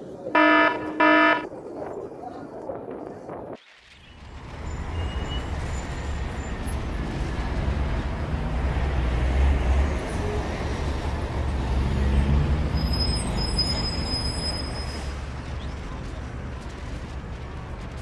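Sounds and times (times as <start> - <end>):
street traffic rumble: 0.0 - 1.6, 4.0 - 18.0.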